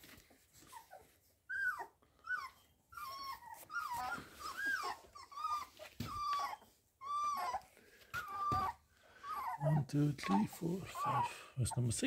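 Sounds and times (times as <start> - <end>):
puppies whining and squealing: 0.1 - 12.0.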